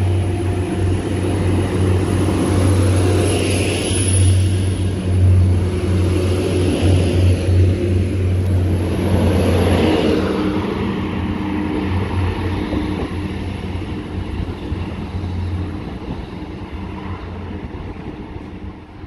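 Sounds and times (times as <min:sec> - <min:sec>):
train diesel engines droning: 0:00.0 - 0:19.0.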